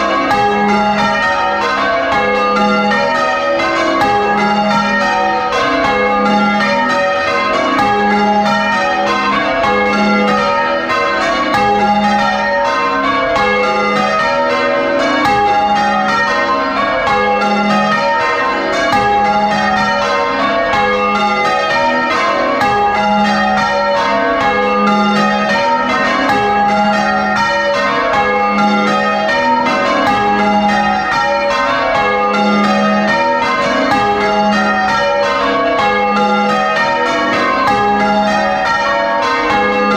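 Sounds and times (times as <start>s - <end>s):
church bells ringing in changes: 0.0s - 39.9s.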